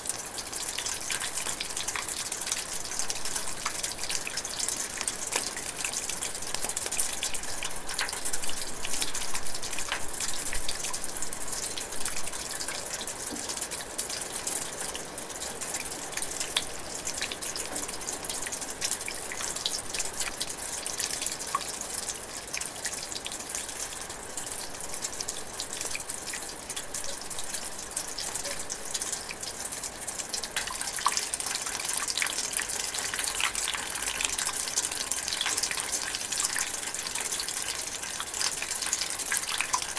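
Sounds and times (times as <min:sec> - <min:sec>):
light rain drizzling: 0:00.0 - 0:39.9.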